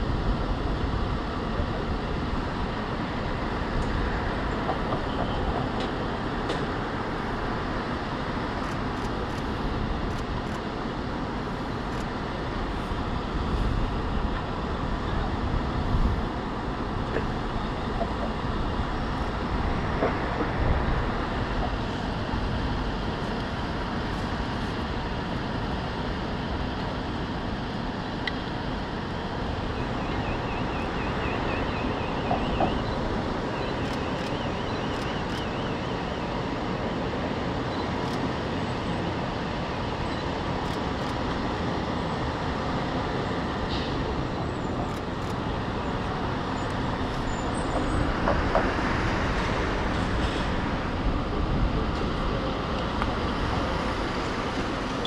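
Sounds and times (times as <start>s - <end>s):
diesel engines rumbling: 0.0s - 55.0s.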